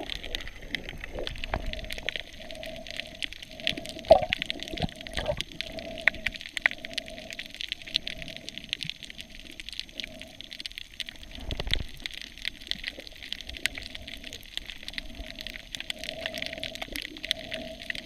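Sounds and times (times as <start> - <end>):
underwater crackle of clicks: 0.0 - 18.0.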